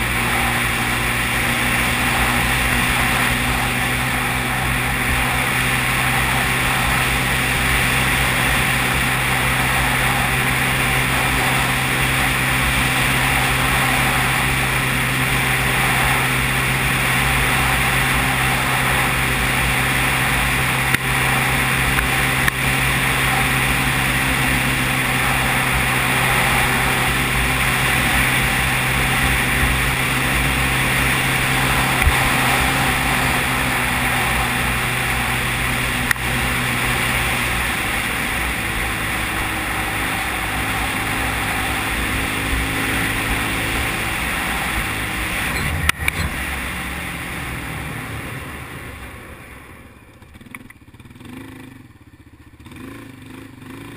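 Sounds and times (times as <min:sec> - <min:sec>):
quad bike engine running: 0:00.0 - 0:53.9.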